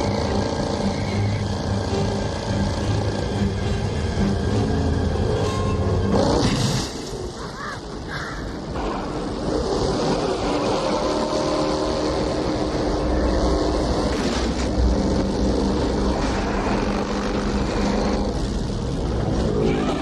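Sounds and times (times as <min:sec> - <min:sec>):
low vehicle engine drone: 0:00.0 - 0:20.0.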